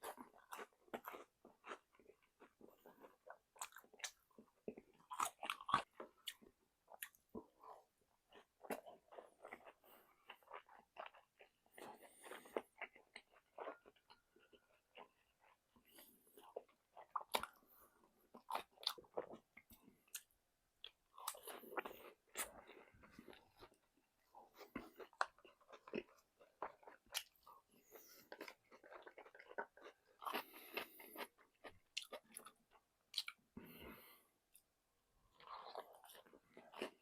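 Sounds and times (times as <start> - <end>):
chewing crispy fried chicken: 0.0 - 37.0.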